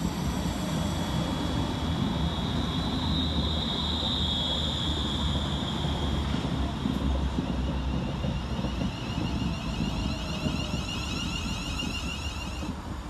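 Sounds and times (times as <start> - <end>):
high wavering whining tones: 0.0 - 12.8
train low rumble: 0.0 - 13.0.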